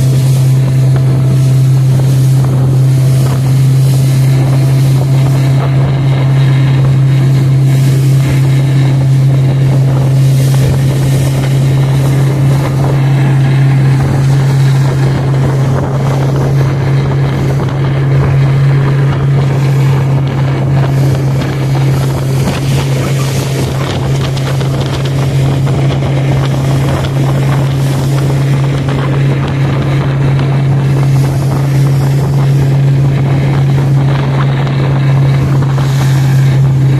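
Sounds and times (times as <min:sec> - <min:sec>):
motorboat engine droning: 0:00.0 - 0:36.9
wind buffeting microphone: 0:00.0 - 0:36.9.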